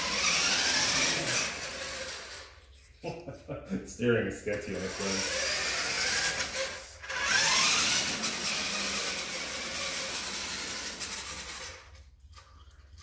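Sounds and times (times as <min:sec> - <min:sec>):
toy truck motor whining: 0:00.0 - 0:02.7, 0:04.6 - 0:12.4.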